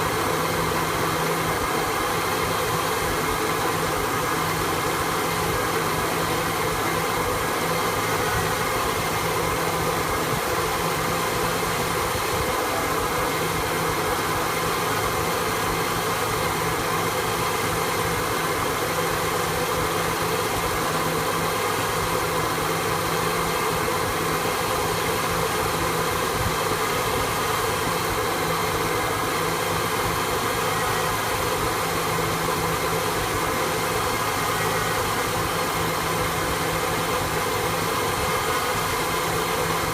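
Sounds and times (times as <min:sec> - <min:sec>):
pickup engine rough idle: 0:00.0 - 0:39.9.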